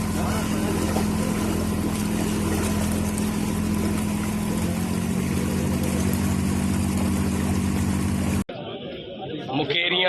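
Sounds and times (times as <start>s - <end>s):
motorboat engine droning: 0.0s - 9.2s.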